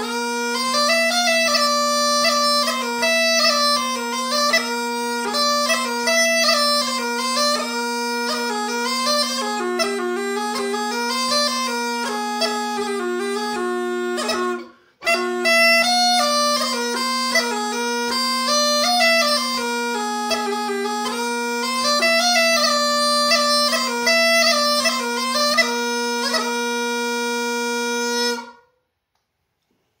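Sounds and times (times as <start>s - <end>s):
bagpipe drone: 0.0s - 28.7s
bagpipe folk melody: 0.0s - 28.7s.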